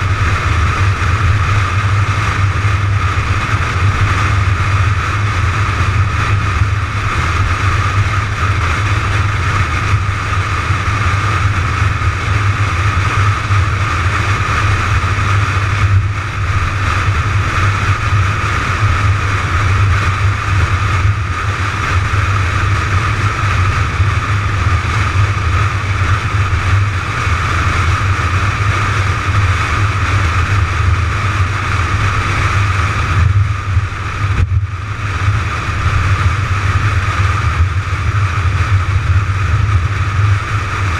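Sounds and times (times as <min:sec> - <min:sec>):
car engine and tyres cruising: 0:00.0 - 0:40.9.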